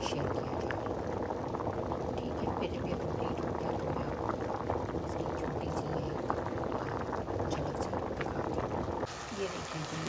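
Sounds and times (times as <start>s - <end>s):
water boiling and bubbling: 0.0s - 10.0s.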